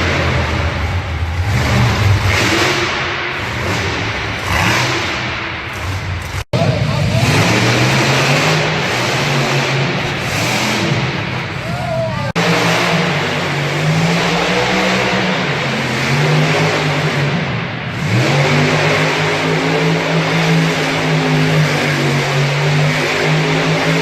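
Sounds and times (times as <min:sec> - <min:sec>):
engine running at high revs: 0:00.0 - 0:24.0.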